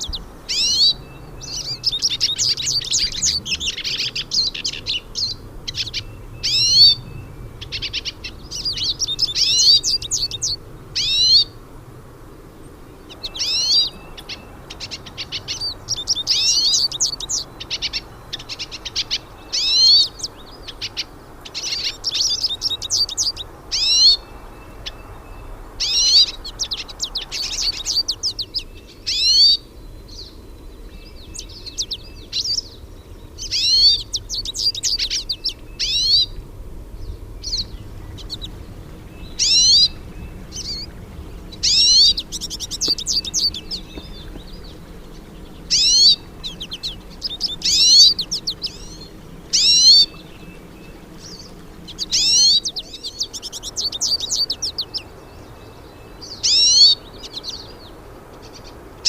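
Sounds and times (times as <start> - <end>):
siskins singing fast twittering: 0.0 - 11.6, 13.0 - 59.0.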